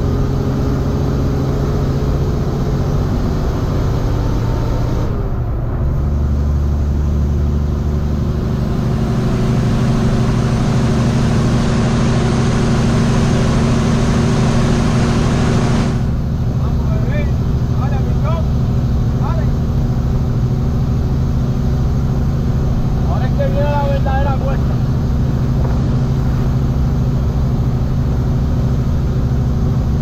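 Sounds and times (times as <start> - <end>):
truck diesel engine under load: 0.0 - 30.0.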